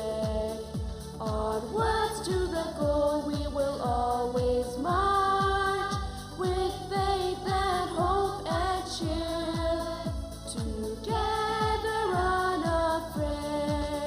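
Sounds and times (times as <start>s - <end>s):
singing in long held notes: 0.0s - 14.0s
steady low drum beat: 0.0s - 14.0s.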